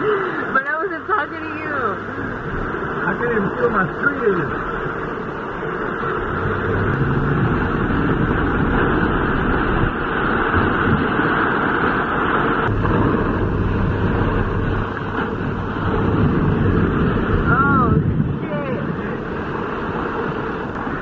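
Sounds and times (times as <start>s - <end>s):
heavy rain battering a car: 0.0s - 21.0s
low hum: 0.0s - 21.0s.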